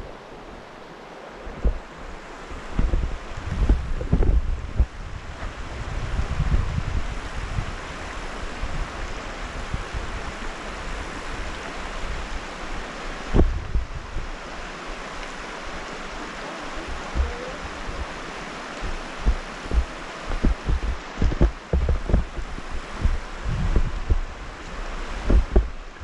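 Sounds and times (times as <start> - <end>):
creek water flowing: 0.0 - 26.0
wind buffeting microphone: 1.4 - 12.6, 13.2 - 14.7, 15.6 - 26.0.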